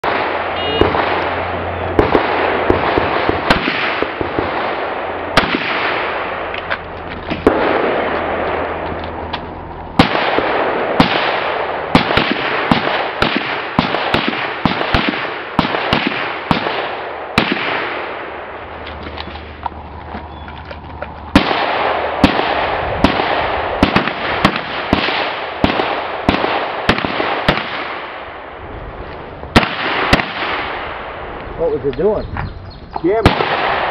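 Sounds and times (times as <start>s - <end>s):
rifle shots: 0.0s - 19.6s, 21.3s - 28.6s, 29.5s - 31.4s, 33.1s - 33.9s
steady rushing noise: 0.0s - 33.9s.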